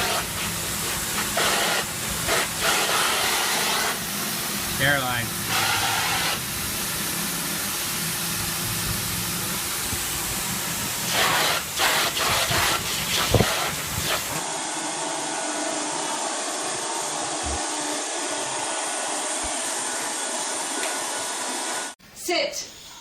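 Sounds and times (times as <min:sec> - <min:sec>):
vacuum cleaner hissing: 0:00.0 - 0:22.0.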